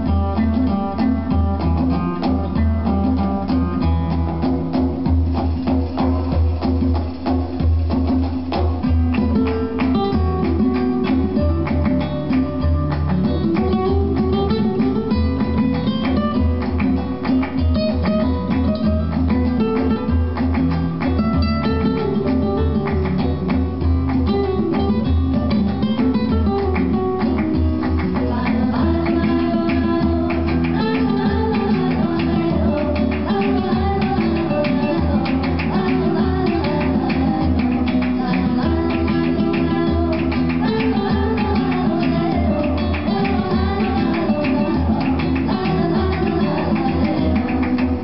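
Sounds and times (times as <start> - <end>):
flamenco guitar music: 0.0 - 48.0.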